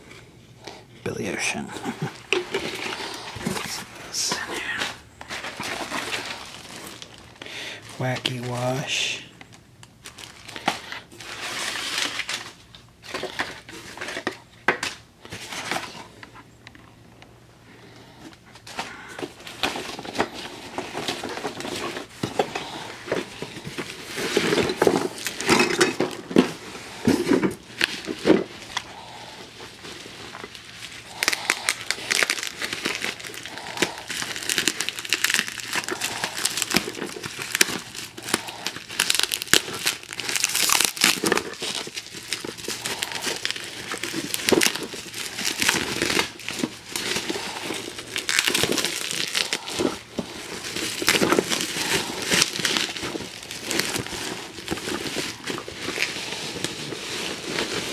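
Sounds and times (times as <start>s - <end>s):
bubble wrap crinkling: 1.8s - 8.9s, 9.5s - 16.3s, 18.4s - 57.9s.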